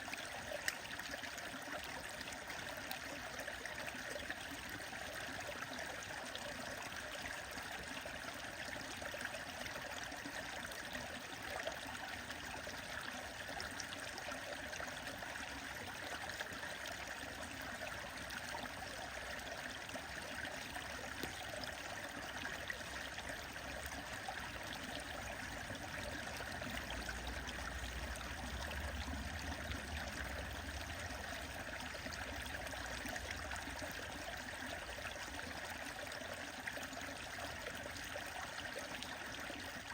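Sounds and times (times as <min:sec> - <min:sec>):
stream rushing and trickling: 0:00.0 - 0:39.9.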